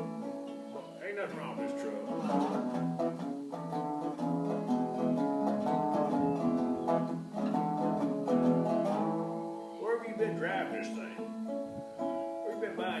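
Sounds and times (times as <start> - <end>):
resonator guitar plucked melody: 0.0 - 13.0.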